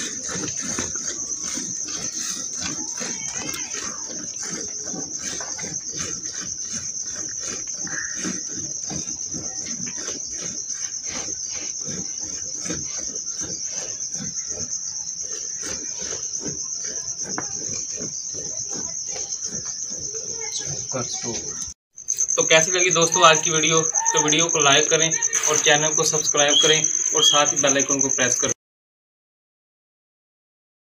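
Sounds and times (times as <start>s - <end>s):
insects chirring: 0.0s - 28.6s.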